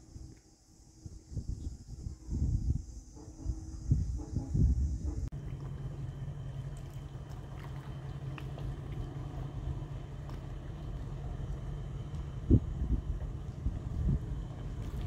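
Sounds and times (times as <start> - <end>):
locomotive engine droning: 0.0 - 15.0.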